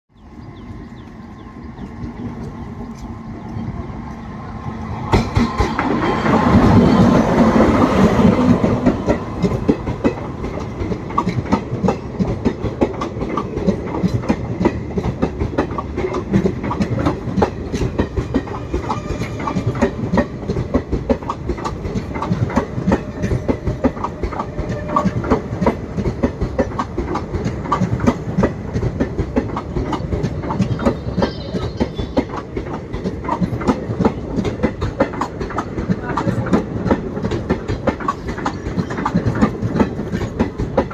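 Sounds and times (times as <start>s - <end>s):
train wheels clattering on rails: 0.4s - 40.9s.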